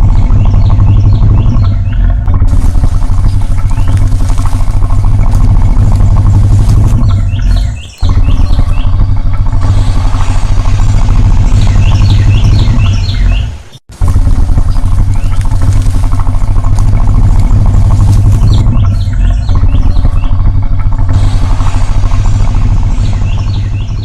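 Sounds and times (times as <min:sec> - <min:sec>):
birds chirping: 0:00.0 - 0:24.0
crocodile bellowing: 0:00.0 - 0:24.0.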